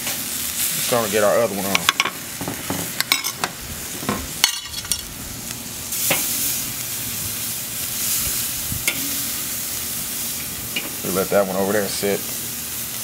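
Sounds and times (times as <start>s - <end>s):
steak sizzling on grill: 0.0s - 13.0s.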